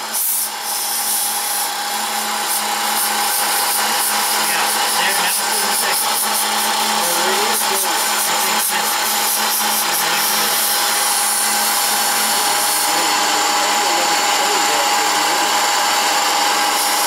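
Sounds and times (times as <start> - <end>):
hiss of cutting wood: 0.0 - 17.0
milling machine spindle whine: 0.0 - 17.0
rapid high pulsing: 0.7 - 17.0.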